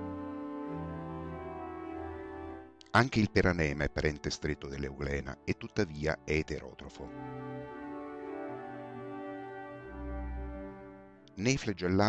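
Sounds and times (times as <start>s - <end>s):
slow background music: 0.0s - 12.0s.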